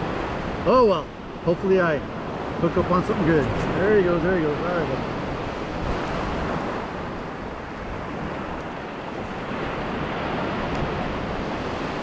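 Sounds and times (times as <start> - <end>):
ocean surf breaking: 0.0 - 12.0
wind rumbling on microphone: 0.0 - 12.0.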